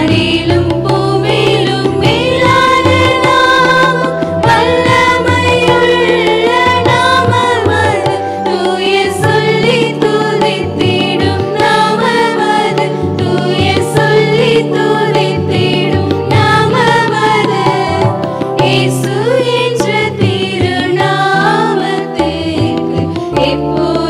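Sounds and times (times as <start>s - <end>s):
women singing a hymn: 0.0s - 24.0s.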